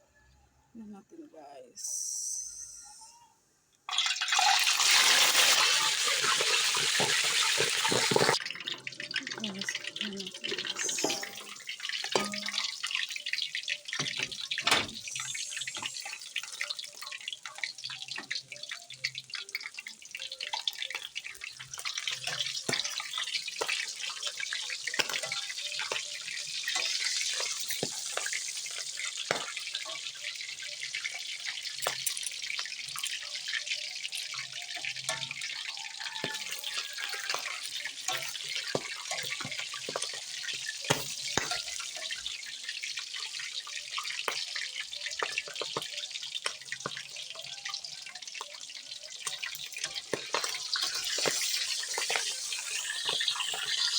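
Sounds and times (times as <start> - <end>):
crackles and pops of frying: 2.6 - 53.9
meat sizzling in hot oil: 3.9 - 53.9.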